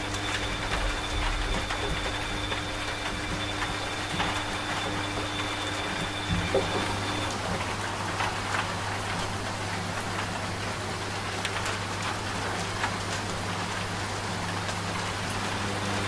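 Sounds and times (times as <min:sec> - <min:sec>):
steady rain: 0:00.0 - 0:16.0
washing machine humming: 0:00.0 - 0:16.0.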